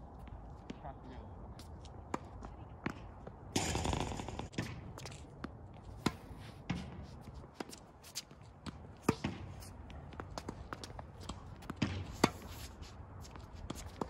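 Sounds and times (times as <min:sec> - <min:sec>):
footsteps on court: 0:00.1 - 0:14.0
tennis ball struck and bouncing: 0:02.0 - 0:14.0.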